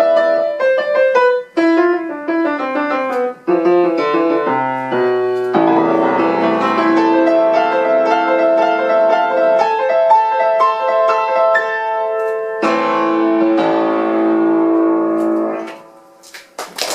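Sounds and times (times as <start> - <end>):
solo piano: 0.0 - 16.2.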